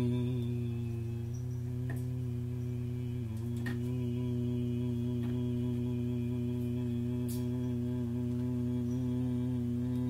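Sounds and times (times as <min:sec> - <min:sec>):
low sustained music drone: 0:00.0 - 0:10.0.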